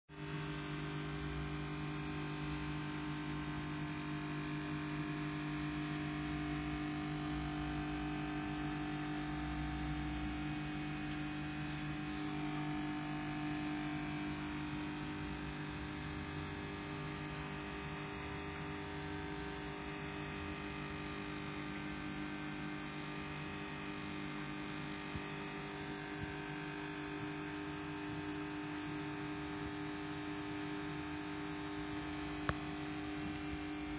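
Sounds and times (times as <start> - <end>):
aquarium equipment humming: 0.1 - 33.9.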